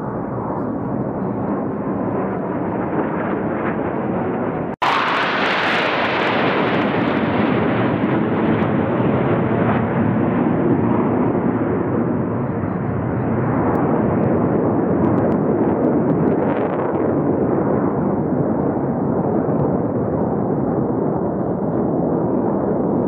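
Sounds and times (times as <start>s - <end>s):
jets flying overhead: 0.0s - 23.0s.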